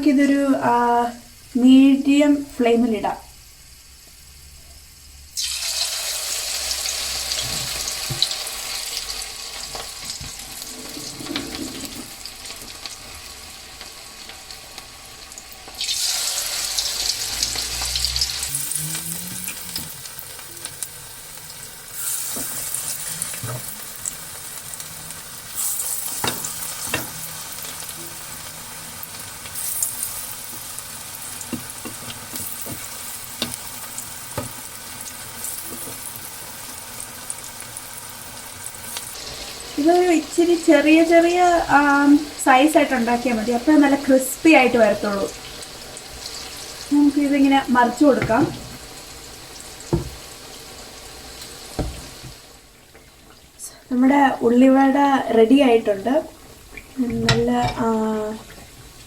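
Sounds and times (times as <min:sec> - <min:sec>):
batter sizzling in hot oil: 0:00.0 - 0:59.0.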